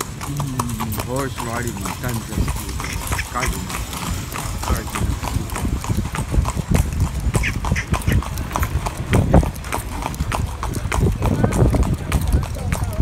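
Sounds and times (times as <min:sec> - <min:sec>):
horse hooves clip-clopping on pavement: 0:00.0 - 0:13.0
low carriage rumble: 0:00.0 - 0:13.0.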